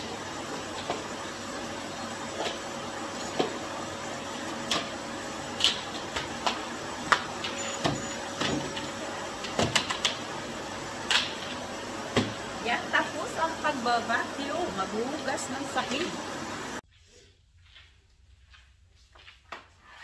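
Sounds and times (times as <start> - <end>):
vacuum cleaner humming: 0.0 - 16.8.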